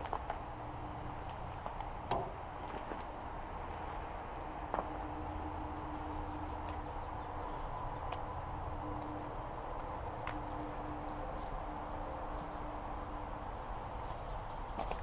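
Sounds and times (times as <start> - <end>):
faint constant hum: 0.0 - 15.0
low outdoor rumble: 0.0 - 15.0.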